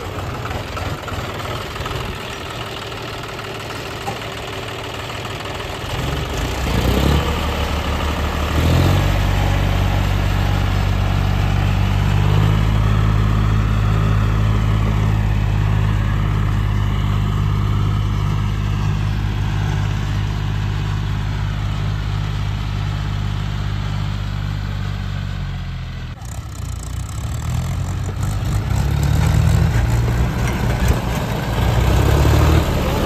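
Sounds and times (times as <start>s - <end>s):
rough uneven engine sound: 0.0s - 33.0s
tractor engine running: 0.0s - 33.0s.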